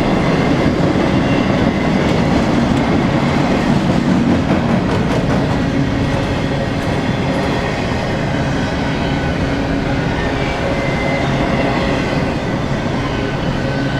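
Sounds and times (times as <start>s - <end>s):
freight train wheels rumbling: 0.0s - 13.9s.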